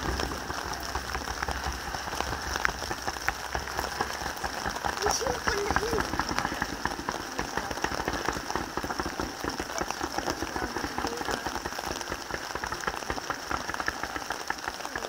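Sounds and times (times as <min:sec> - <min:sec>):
distant fireworks crackling: 0:00.0 - 0:15.0.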